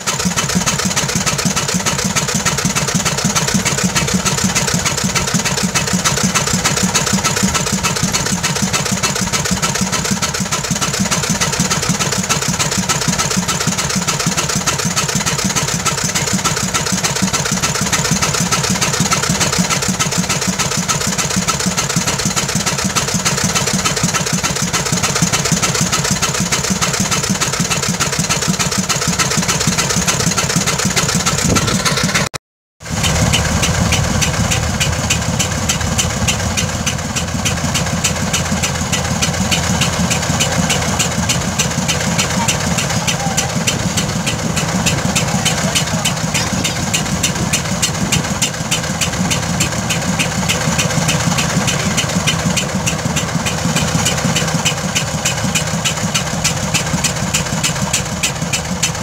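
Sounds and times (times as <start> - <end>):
fire engine pump engine running: 0.0 - 59.0.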